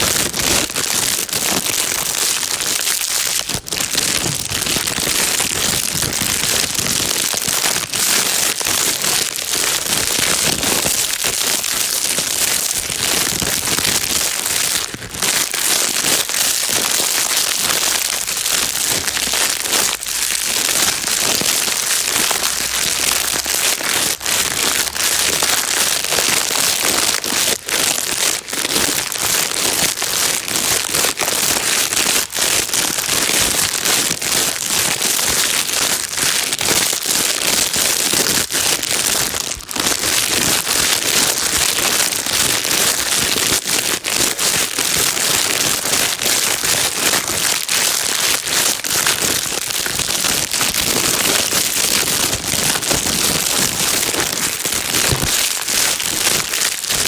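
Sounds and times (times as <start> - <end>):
plastic bag crinkling: 0.0 - 57.0.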